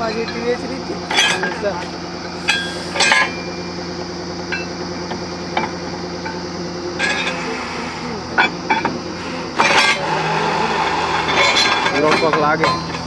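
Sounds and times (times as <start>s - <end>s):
drilling rig engine running: 0.0s - 13.0s.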